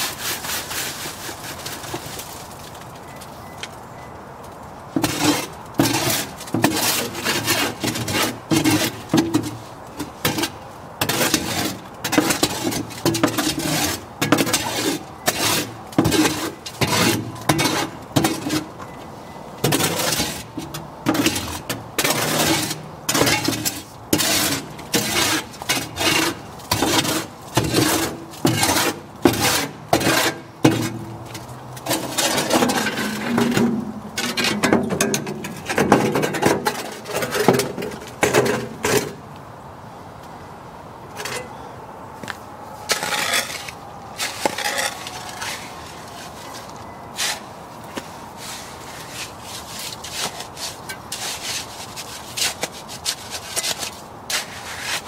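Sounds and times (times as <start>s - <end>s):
tool scraping wet concrete: 0.0s - 2.2s, 5.0s - 18.8s, 19.6s - 39.2s, 42.9s - 46.5s, 48.4s - 55.0s.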